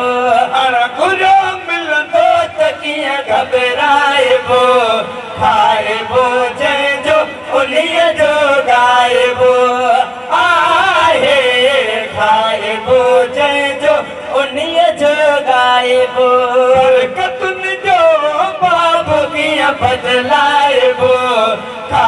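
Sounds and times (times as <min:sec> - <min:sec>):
men singing into microphones: 0:00.0 - 0:22.0.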